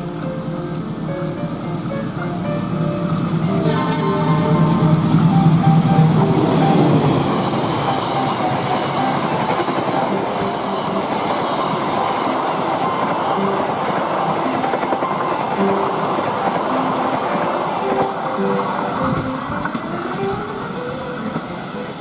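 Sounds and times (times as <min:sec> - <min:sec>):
coach wheels rolling on rails: 0:00.0 - 0:22.0
locomotive passing: 0:00.0 - 0:22.0.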